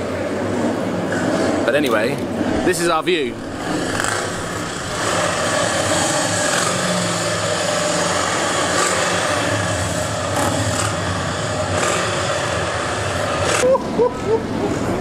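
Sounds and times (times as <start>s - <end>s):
distant racing car engine: 0.0s - 15.0s
motorcycles rumbling: 0.0s - 15.0s.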